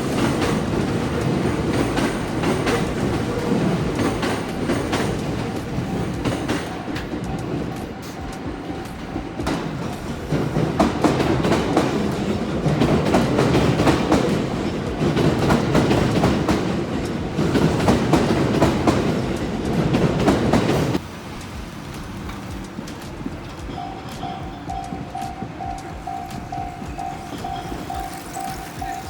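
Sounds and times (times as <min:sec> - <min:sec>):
crossing warning bell: 0:00.0 - 0:29.0
train wheels clattering over rails: 0:00.0 - 0:29.0.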